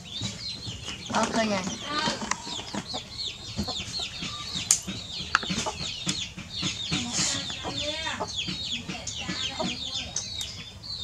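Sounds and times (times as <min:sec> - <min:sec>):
birds chirping high peeps: 0:00.0 - 0:11.0
sharp clicks: 0:00.4 - 0:10.6.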